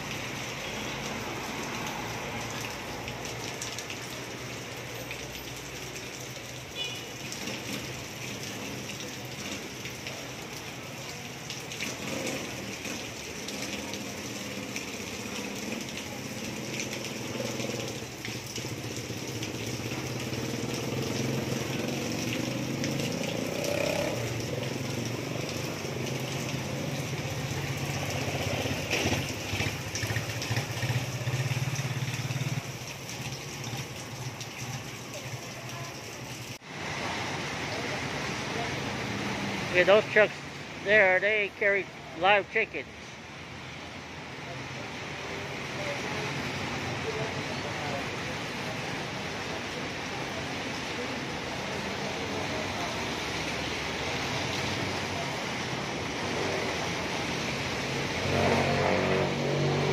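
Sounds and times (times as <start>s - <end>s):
rain on pavement and roofs: 0.0s - 59.9s.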